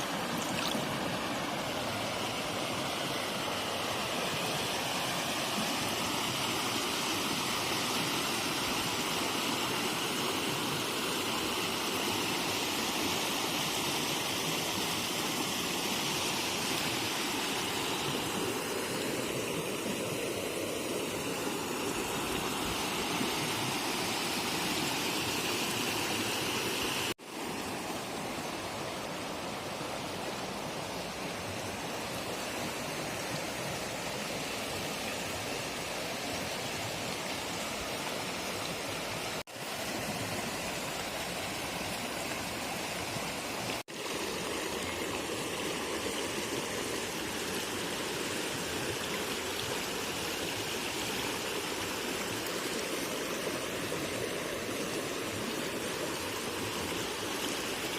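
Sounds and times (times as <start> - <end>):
river water flowing: 0.0 - 57.9.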